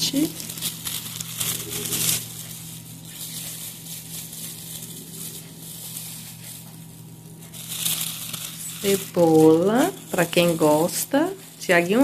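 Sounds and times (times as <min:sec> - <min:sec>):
faint rustling and handling: 0:00.0 - 0:12.0.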